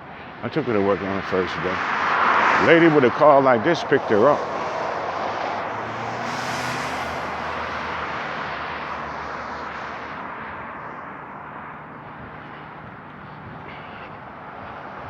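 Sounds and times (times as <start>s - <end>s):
motor vehicle passing by: 0.5s - 15.0s.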